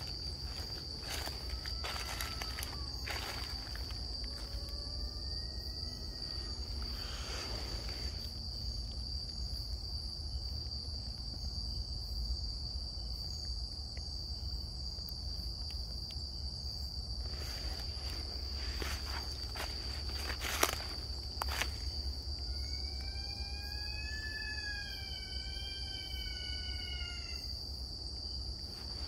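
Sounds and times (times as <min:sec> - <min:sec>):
night insects droning: 0:00.0 - 0:29.0.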